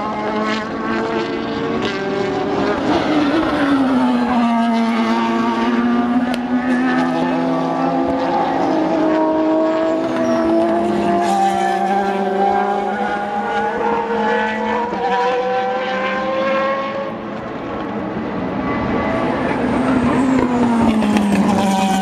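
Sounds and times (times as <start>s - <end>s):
race car engines at speed: 0.0s - 22.0s.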